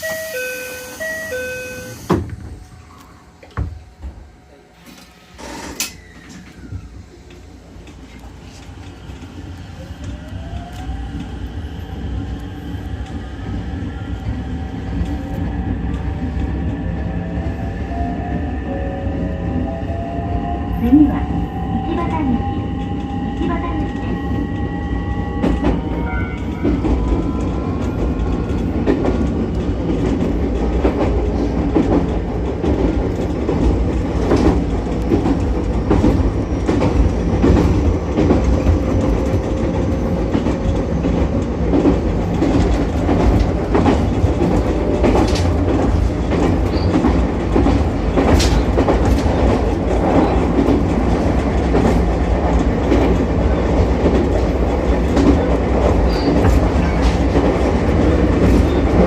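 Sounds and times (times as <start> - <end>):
electric railcar rumbling: 0.0 - 59.0.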